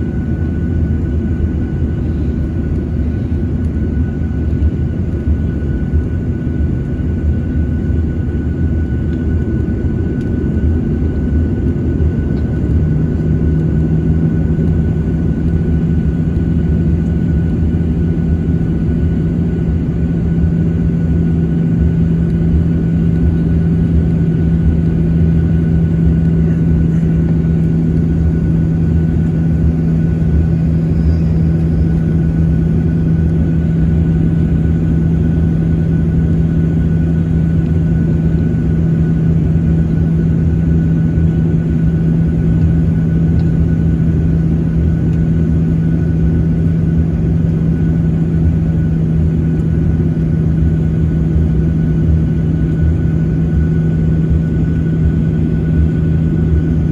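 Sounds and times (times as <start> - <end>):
deep steady drone: 0.0 - 56.9
jet engines rumbling in cabin: 0.0 - 56.9.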